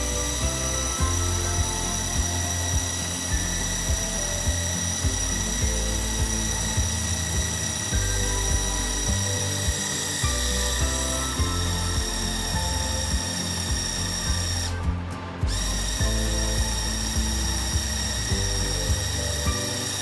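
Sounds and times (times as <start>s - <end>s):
background music with beat: 0.0s - 20.0s
high-pitched motor whine: 0.0s - 20.0s.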